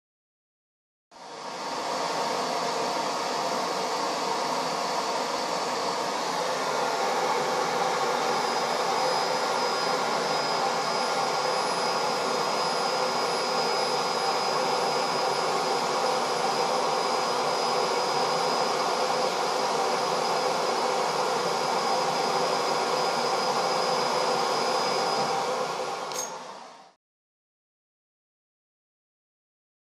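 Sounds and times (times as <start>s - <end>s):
laser high whine: 1.2s - 26.9s
fume extractor air rush: 1.3s - 26.7s.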